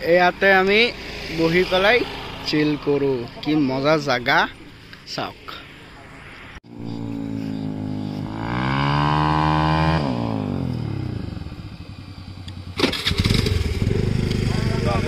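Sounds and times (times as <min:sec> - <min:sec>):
motorcycle accelerating: 0:00.0 - 0:05.0, 0:06.7 - 0:15.0.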